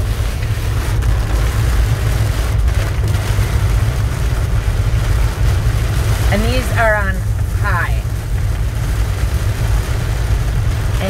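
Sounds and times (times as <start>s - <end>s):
heavy rain drumming on car roof: 0.0s - 11.0s.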